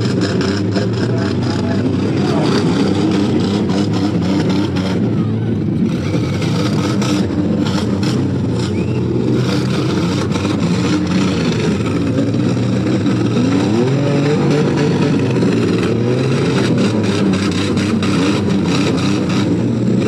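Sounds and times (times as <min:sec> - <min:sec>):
car engines running and revving: 0:00.0 - 0:20.0.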